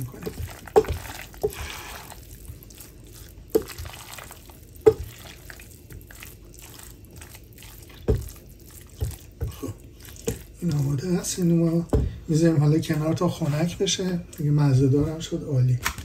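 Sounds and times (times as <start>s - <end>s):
wet squelching of stirred pasta: 0.0s - 15.3s.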